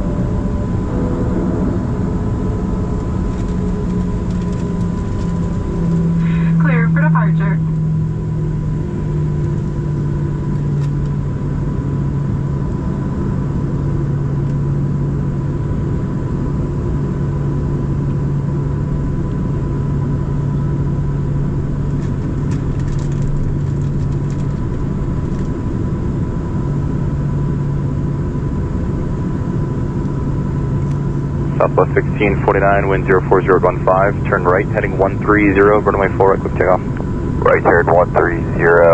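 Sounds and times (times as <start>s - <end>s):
aircraft cabin low hum: 0.0s - 38.9s
thin steady whine: 0.0s - 38.9s.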